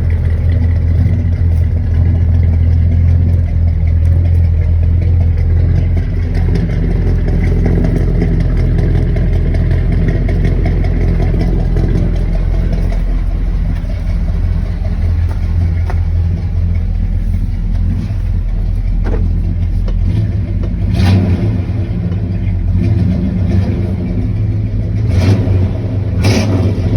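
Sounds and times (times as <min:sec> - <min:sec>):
low engine exhaust note: 0:00.0 - 0:26.9.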